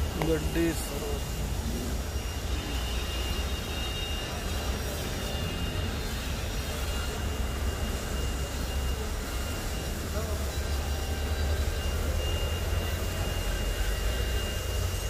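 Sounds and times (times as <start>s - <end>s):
pressure washer drone and whine: 0.0s - 15.0s.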